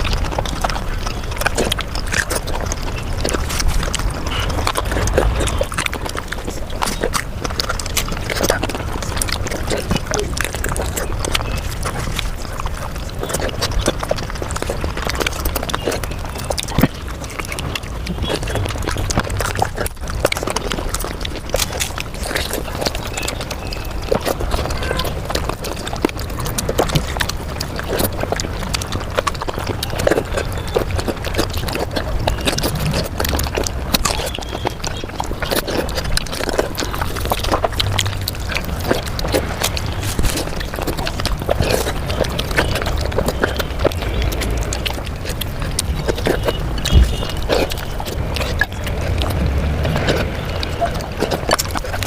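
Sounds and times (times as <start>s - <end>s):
sped-up chewing and crunching: 0.0s - 52.0s.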